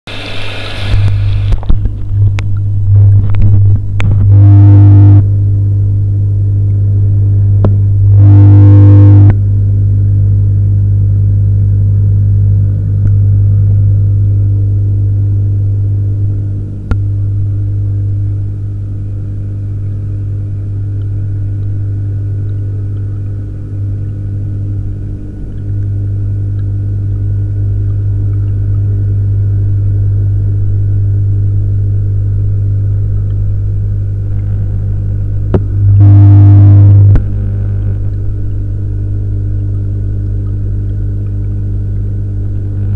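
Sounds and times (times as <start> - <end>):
aquarium water pumps humming: 0.1 - 42.9.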